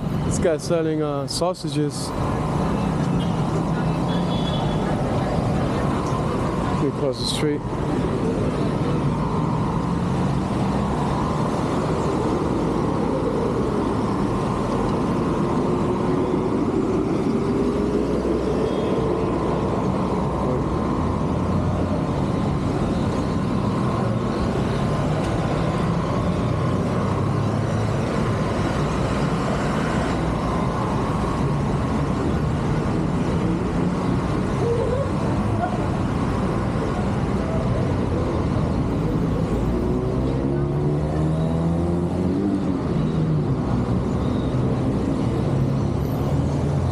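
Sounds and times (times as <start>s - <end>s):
street traffic: 0.0s - 46.9s.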